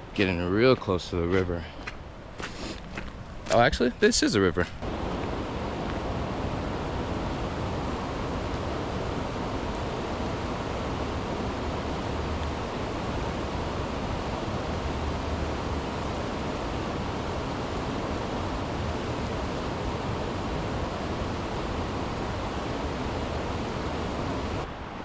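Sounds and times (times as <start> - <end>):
river water rushing: 4.8 - 25.0.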